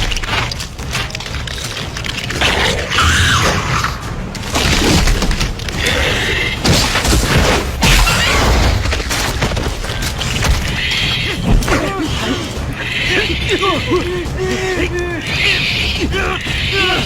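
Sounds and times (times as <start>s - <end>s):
action film music: 0.0s - 17.0s.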